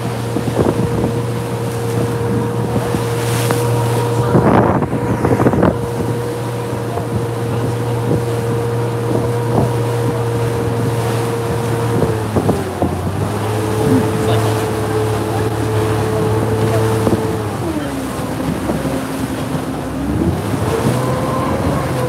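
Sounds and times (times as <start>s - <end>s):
hull banging through waves: 0.0s - 22.0s
motorboat engine whine: 0.0s - 22.0s
wind buffeting microphone: 0.0s - 22.0s.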